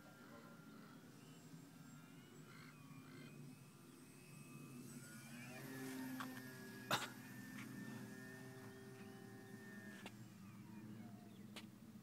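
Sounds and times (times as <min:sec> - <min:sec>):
model plane motor humming: 0:00.0 - 0:12.0.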